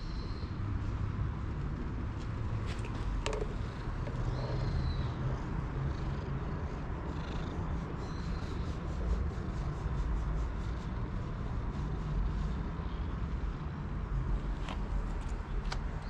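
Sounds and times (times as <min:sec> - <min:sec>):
cat purring: 0:01.5 - 0:14.4.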